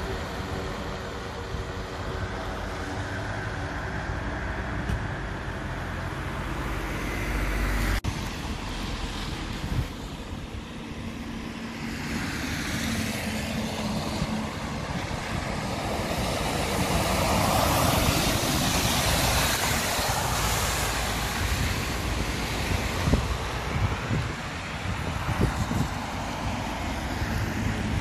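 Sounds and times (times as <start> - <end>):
heavy truck passing on wet road: 0.0 - 28.0.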